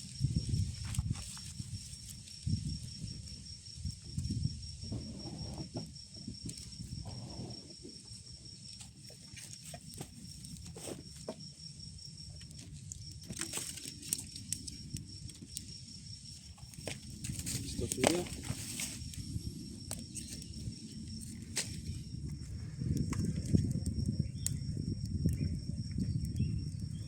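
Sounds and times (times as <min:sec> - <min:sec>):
high insect trill: 0:00.0 - 0:27.0.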